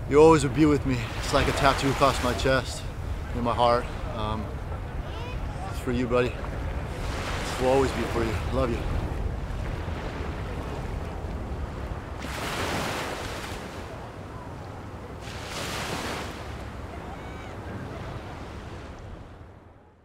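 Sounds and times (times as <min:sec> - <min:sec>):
ocean surf washing onto beach: 0:00.0 - 0:19.9
wind rumbling on microphone: 0:00.0 - 0:19.9.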